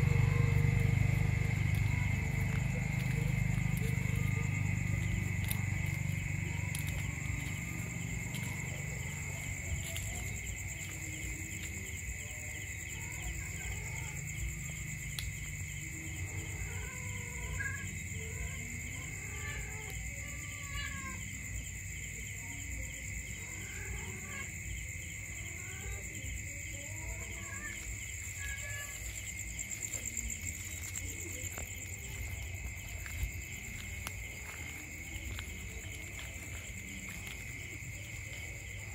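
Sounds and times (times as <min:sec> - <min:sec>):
cricket trill: 0:00.0 - 0:38.9
fast pulsing insect chirp: 0:00.0 - 0:38.9.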